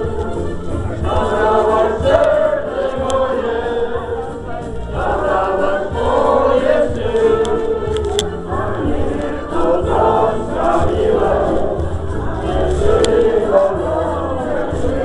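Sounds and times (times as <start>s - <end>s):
group of people singing: 0.0s - 15.0s.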